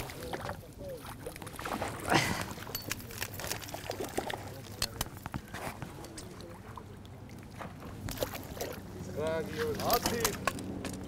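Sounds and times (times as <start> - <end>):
small splashes and taps: 0.0 - 11.0
water splashing: 0.0 - 11.0.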